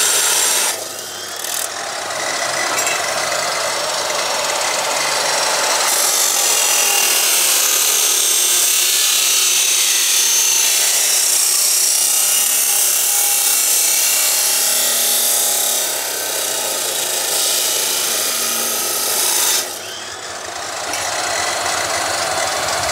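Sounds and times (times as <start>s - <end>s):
cut-off saw grinding steel: 0.0s - 22.9s.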